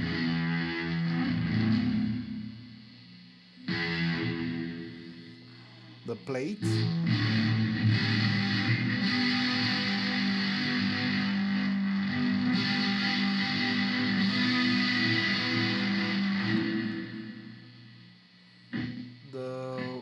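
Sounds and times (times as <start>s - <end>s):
electric guitar chords with reverb: 0.0s - 2.8s, 3.6s - 17.9s.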